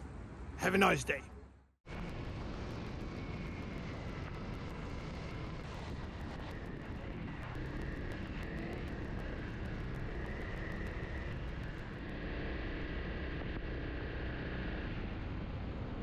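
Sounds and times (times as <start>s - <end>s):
motorcycle engine drone: 1.9s - 16.0s.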